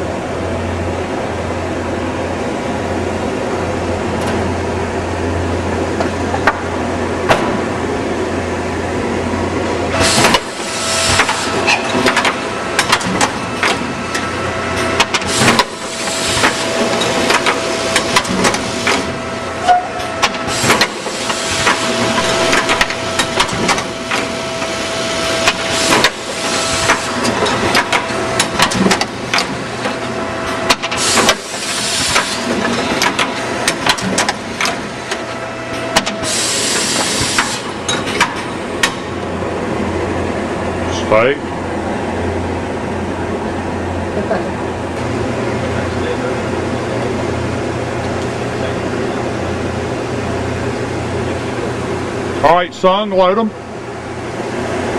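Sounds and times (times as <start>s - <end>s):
machine whine: 0.0s - 54.9s.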